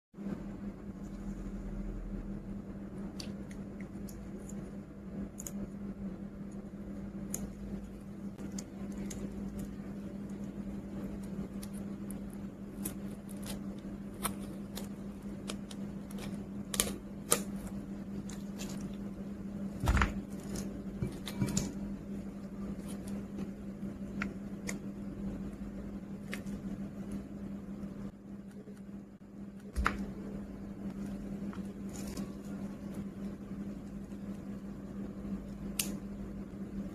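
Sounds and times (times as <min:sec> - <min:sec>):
steady low hum: 0:00.2 - 0:36.9.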